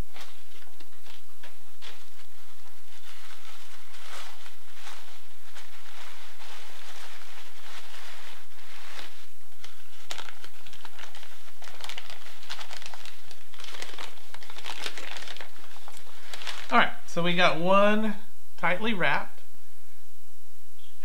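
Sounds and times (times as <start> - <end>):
packing material crinkling: 0.0 - 16.9.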